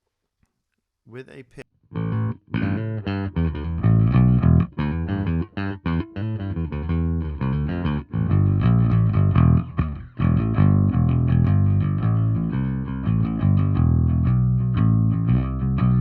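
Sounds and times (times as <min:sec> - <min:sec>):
electric bass played with a pick: 0:01.9 - 0:16.0.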